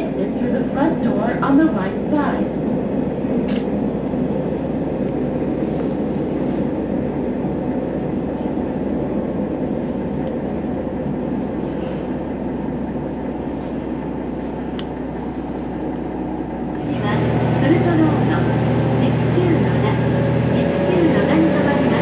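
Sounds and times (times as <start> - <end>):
train engine and wheels rumbling: 0.0 - 22.0.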